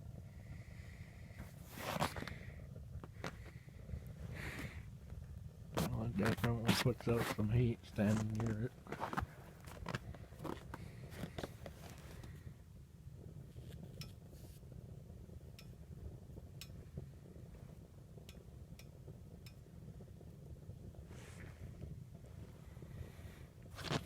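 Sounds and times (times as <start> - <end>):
oil burner rumbling: 0.0 - 24.0.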